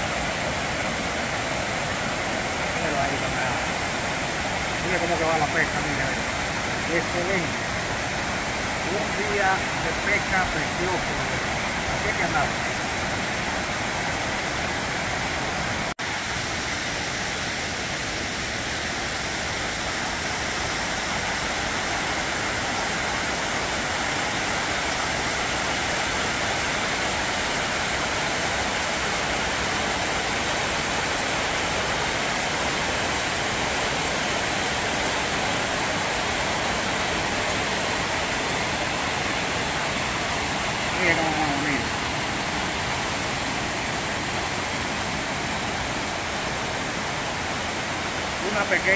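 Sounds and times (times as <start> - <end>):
water pouring over a dam: 0.0 - 48.9.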